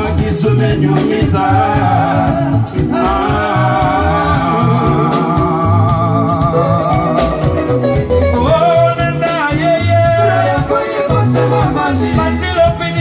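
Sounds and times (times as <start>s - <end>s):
bass line: 0.0s - 13.0s
guitars: 0.0s - 13.0s
rhumba band music: 0.0s - 13.0s.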